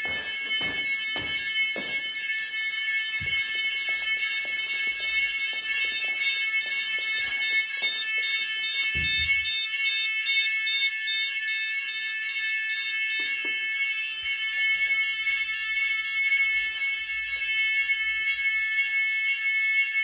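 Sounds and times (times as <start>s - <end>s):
fast pulsing alarm tone: 0.0s - 20.0s
fire alarm shrill tone: 0.0s - 20.0s.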